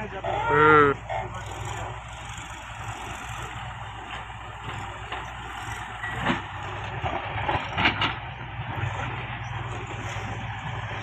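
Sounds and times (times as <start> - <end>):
tractor diesel engine running: 0.0 - 11.0
trailer knocks and rattles: 1.0 - 11.0.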